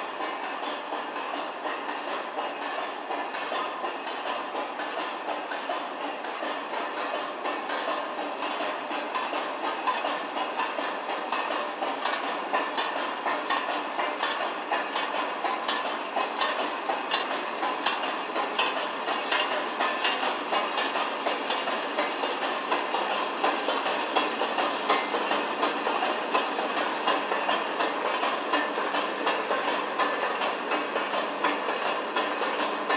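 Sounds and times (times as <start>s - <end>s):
conveyor buckets clacking: 0.0s - 32.9s.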